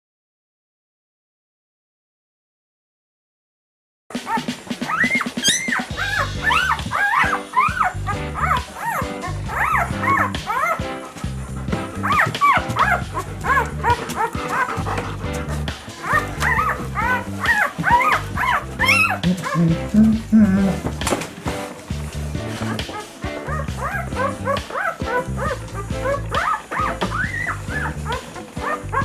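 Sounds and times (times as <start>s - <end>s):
background music: 4.1s - 29.0s
puppies squealing and whimpering: 4.2s - 21.1s, 22.4s - 29.0s.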